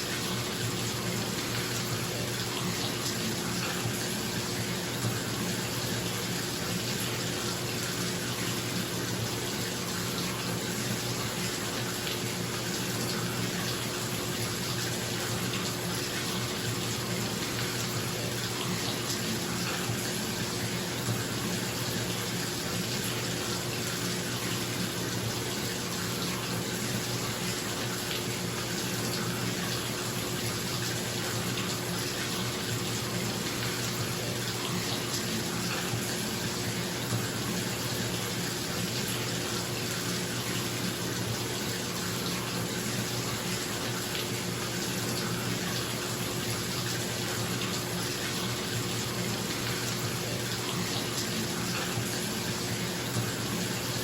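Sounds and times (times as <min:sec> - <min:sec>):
tap water filling bathtub: 0:00.0 - 0:54.0.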